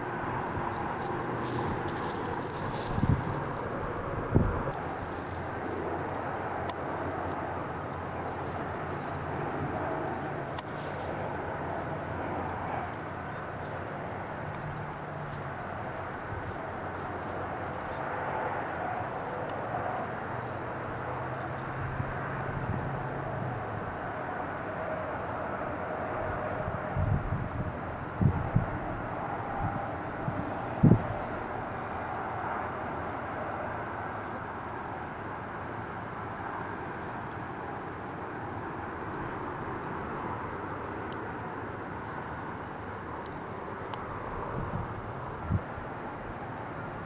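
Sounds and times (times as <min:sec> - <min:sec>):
distant highway traffic hum: 0:00.0 - 0:47.0.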